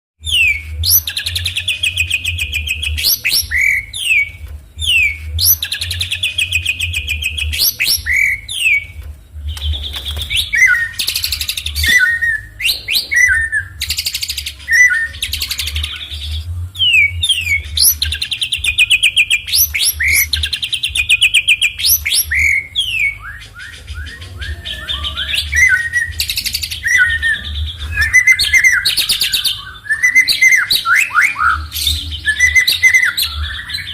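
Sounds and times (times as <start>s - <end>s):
songbird singing buzzy trills: 0.2s - 33.9s
steady low hum: 0.2s - 33.9s.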